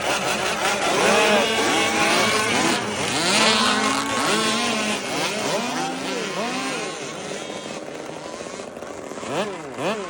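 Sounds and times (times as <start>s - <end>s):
small boat motors revving: 0.0s - 10.0s.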